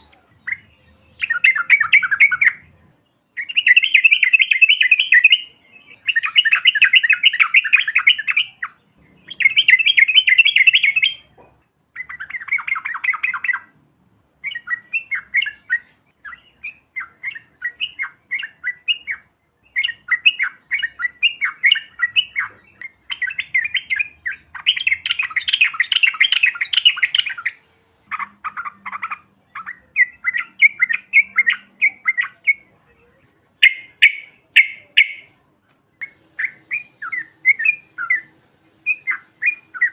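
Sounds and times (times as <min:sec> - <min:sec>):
bird chattering song: 0:00.0 - 0:13.8, 0:14.4 - 0:35.4, 0:36.0 - 0:39.9.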